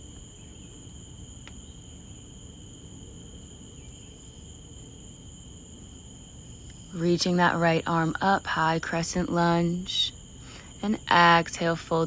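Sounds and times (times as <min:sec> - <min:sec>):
insects trilling: 0:00.0 - 0:12.0
low steady hiss: 0:00.0 - 0:12.0.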